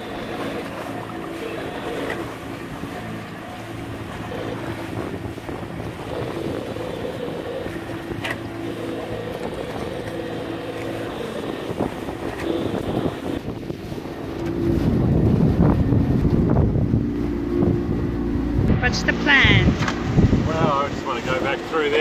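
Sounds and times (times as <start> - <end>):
outboard motor running: 0.0 - 22.0
wind buffeting microphone: 0.0 - 22.0.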